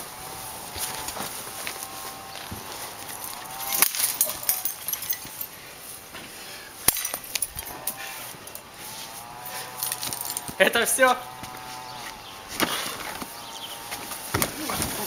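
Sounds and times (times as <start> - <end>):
drawn-out rising and falling calls: 0.0 - 6.8, 7.5 - 14.3.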